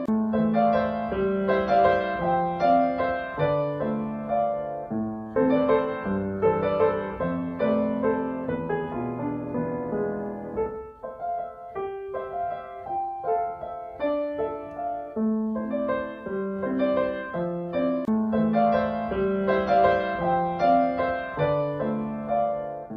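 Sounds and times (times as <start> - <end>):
piano music: 0.0 - 22.9.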